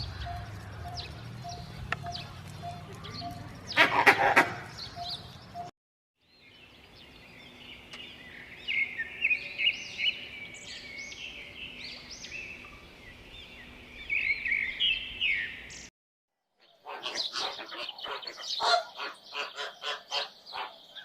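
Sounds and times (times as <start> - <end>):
small birds chirping: 0.0 - 3.9, 4.6 - 15.9, 16.6 - 21.0.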